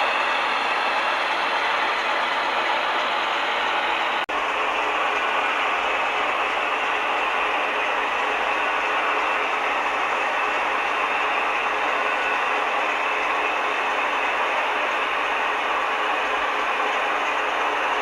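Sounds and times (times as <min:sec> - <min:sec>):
model train whirring and clattering: 0:00.0 - 0:18.0.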